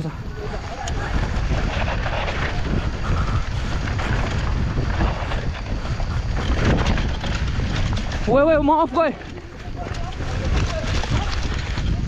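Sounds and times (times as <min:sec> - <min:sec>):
wind buffeting microphone: 0:00.0 - 0:12.0
bike knocking and rattling: 0:00.2 - 0:12.0.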